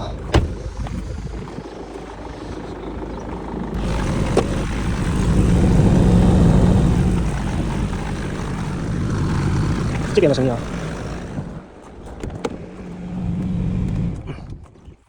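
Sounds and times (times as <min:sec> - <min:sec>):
blower fan air rush: 0:00.0 - 0:14.4
low fan hum: 0:00.0 - 0:14.4.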